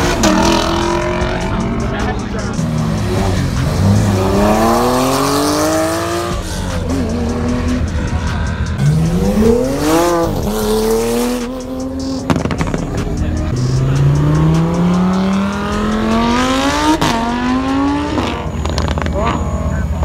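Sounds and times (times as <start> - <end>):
sports car engines accelerating: 0.0 - 20.0.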